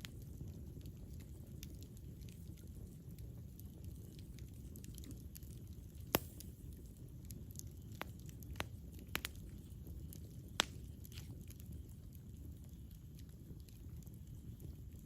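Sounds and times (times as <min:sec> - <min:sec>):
low rumble of flames: 0:00.0 - 0:15.0
wood pops and crackles: 0:00.0 - 0:15.0.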